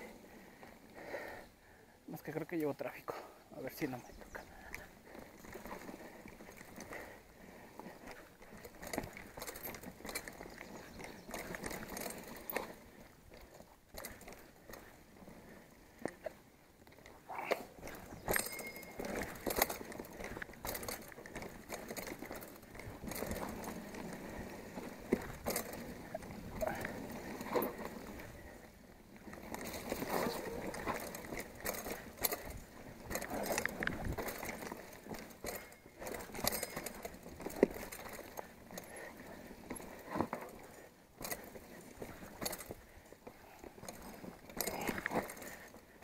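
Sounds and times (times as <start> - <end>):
tyres crunching over dirt: 3.6 - 46.0
bike rattling and knocking: 5.0 - 46.0.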